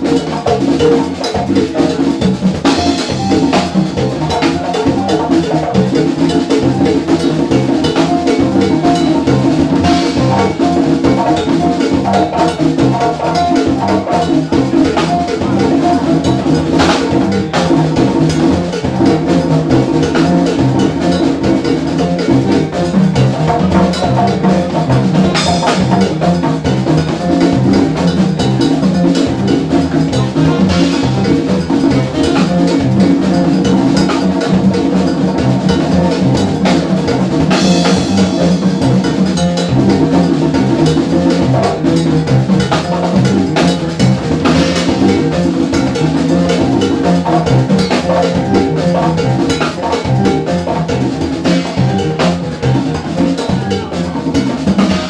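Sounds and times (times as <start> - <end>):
drum kit with cymbals: 0.0 - 55.0
electric bass line: 0.0 - 55.0
jazz combo playing: 0.0 - 55.0.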